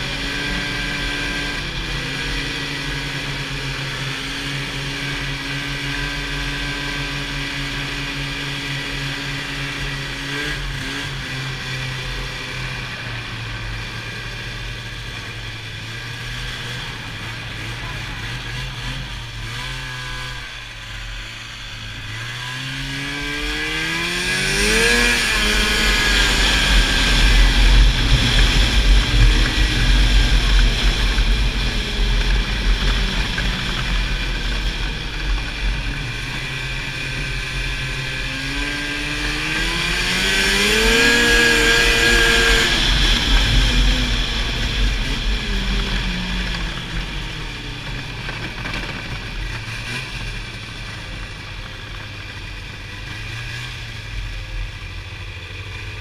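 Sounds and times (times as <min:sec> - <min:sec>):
snowmobile engine accelerating: 0:00.0 - 0:56.0
track rumble: 0:00.0 - 0:56.0.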